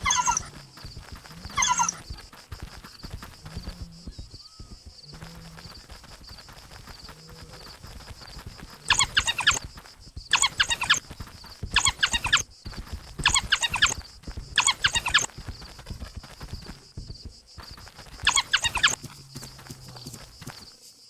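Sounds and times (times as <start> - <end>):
wild dogs twittering calls: 0.0 - 20.8.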